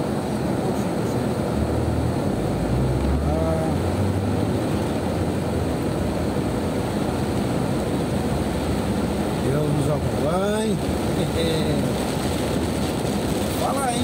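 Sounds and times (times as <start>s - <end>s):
car engine hum: 0.0s - 14.0s
heavy rain on a car: 0.0s - 14.0s.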